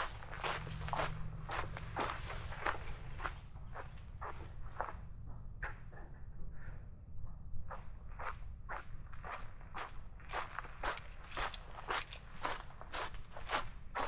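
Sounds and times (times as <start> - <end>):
footsteps walking: 0.0 - 5.0, 7.7 - 14.0
high-pitched insect drone: 0.0 - 14.0.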